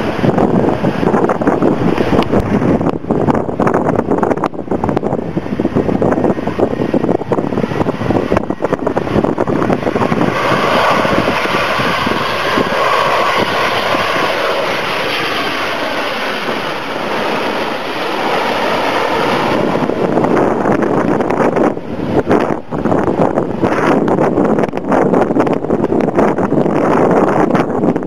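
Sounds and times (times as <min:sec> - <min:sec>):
jet airliner passing overhead: 0:00.0 - 0:28.0
wind buffeting microphone: 0:00.0 - 0:28.0.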